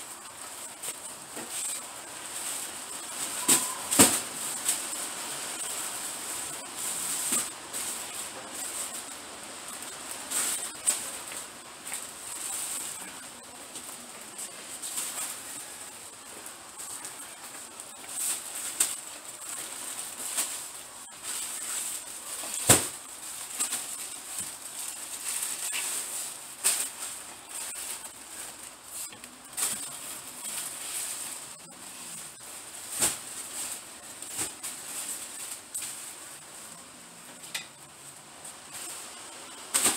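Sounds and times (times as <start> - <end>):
bags and boxes rustling: 0.1 - 39.9.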